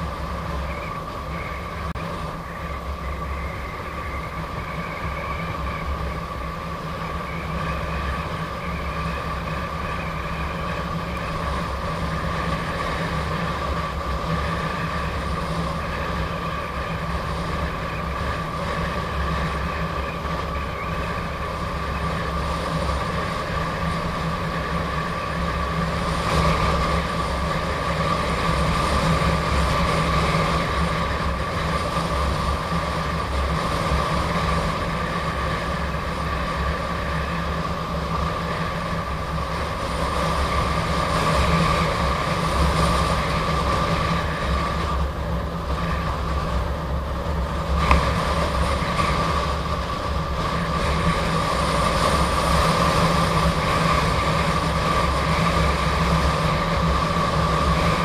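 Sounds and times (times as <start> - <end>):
road noise: 0.0 - 58.0
wind rumble on microphone: 0.0 - 58.0.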